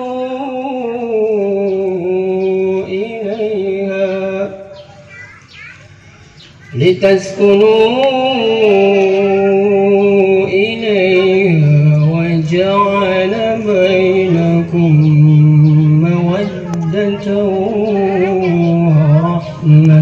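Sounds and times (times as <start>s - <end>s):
man chanting: 0.0s - 4.8s, 6.7s - 20.0s.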